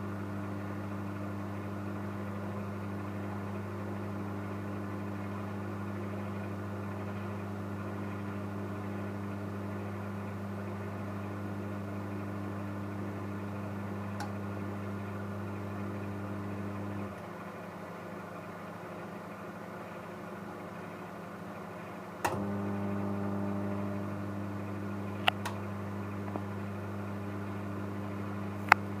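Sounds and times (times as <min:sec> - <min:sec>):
microwave fan and turntable: 0:00.0 - 0:29.0
microwave magnetron humming: 0:00.0 - 0:29.0.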